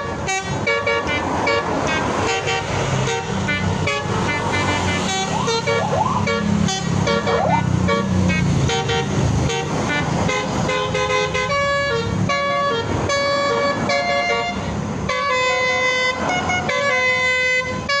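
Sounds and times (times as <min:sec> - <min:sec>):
bus horn melody: 0:00.0 - 0:18.0.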